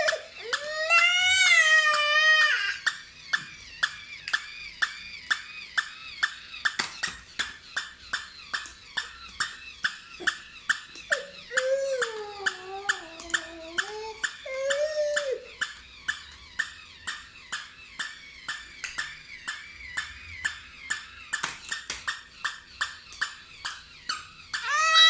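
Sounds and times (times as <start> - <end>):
toy dog barking: 0.0 - 6.4, 9.4 - 19.8, 21.7 - 25.0.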